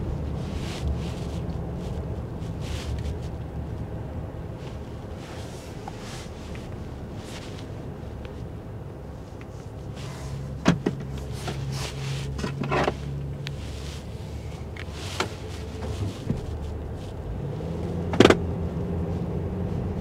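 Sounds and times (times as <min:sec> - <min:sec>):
car engine and road hum: 0:00.0 - 0:20.0.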